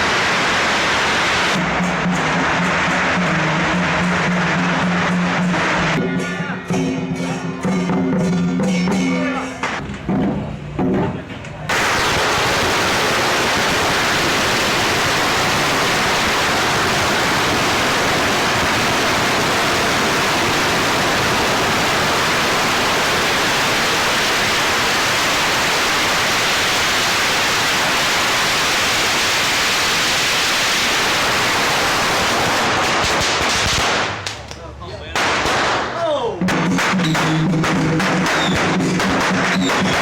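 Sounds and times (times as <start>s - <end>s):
firecrackers going off: 0.0s - 10.7s, 11.6s - 40.0s.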